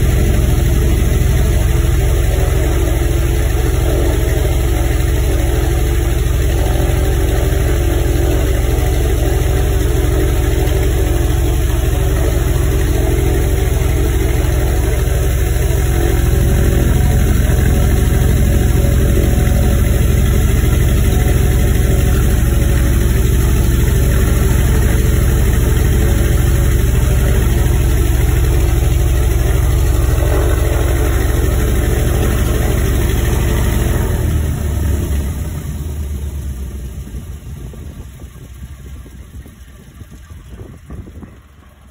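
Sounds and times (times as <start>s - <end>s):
radial aircraft engine running: 0.0s - 41.9s.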